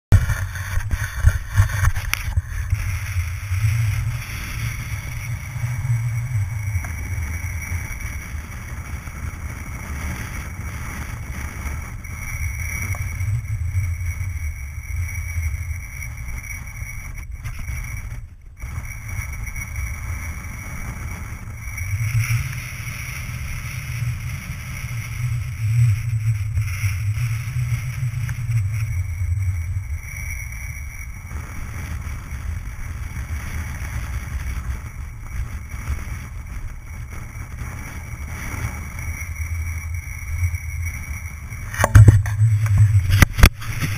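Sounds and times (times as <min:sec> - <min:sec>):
wind buffeting microphone: 0:00.1 - 0:30.1, 0:30.9 - 0:43.9.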